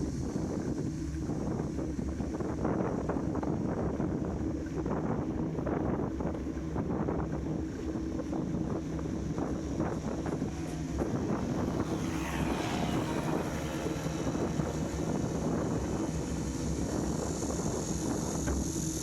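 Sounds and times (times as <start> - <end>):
engine running: 0.0 - 19.0
wind noise on microphone: 0.0 - 19.0.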